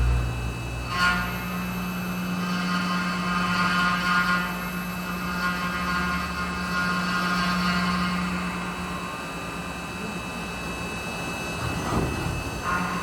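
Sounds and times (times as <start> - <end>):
machine hum: 0.0 - 13.0
spindle cutting whine: 0.0 - 13.0.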